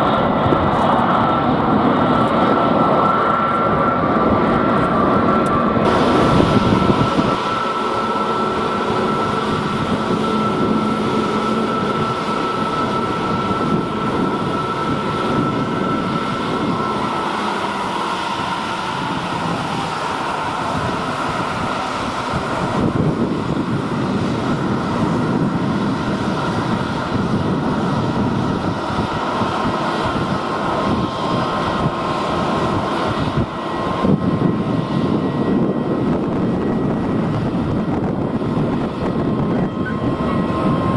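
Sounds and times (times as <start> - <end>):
high engine whine: 0.0 - 40.9
jet engines roaring: 0.0 - 40.9
wind buffeting microphone: 0.0 - 40.9.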